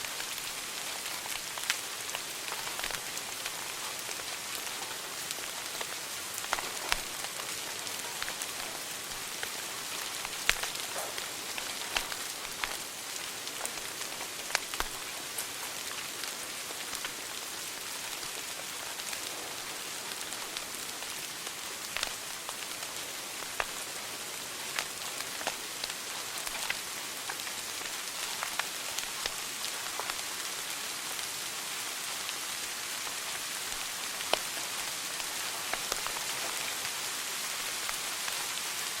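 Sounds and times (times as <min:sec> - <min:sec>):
steady fire hiss: 0:00.0 - 0:39.0
wood fire crackling and popping: 0:00.1 - 0:31.5, 0:32.3 - 0:39.0.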